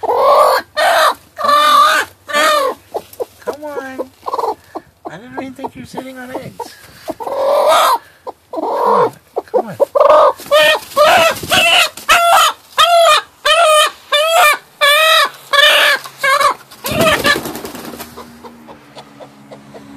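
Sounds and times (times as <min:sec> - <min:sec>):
hen calling harshly: 0:00.0 - 0:17.5.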